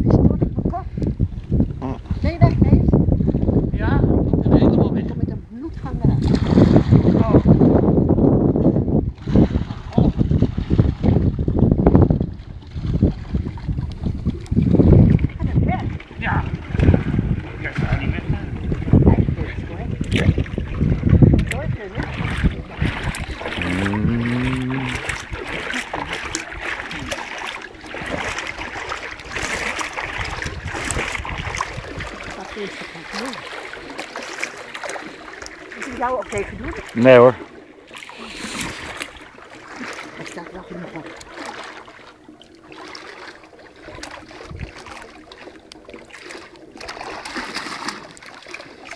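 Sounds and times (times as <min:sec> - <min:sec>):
pool water splashing: 0:05.5 - 0:48.9.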